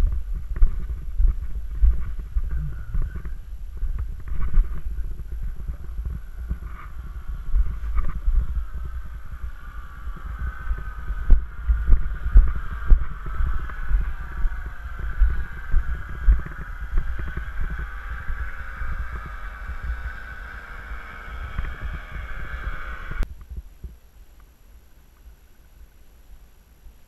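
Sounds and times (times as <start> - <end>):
paramotor engine drone: 0.0 - 23.6
wind buffeting microphone: 0.0 - 24.0.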